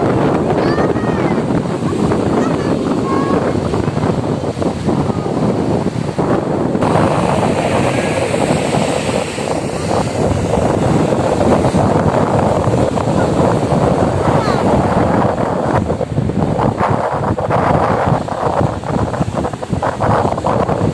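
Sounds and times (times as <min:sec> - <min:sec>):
sea surf rushing: 0:00.0 - 0:20.9
wind blowing across microphone: 0:00.0 - 0:20.9.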